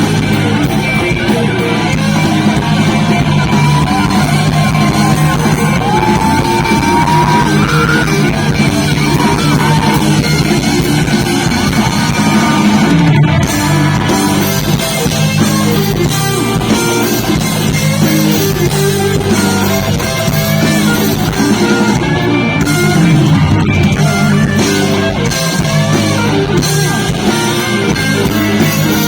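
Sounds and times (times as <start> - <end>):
bass: 0.0 - 29.0
drums: 0.0 - 29.0
electric guitar solo: 0.0 - 29.0.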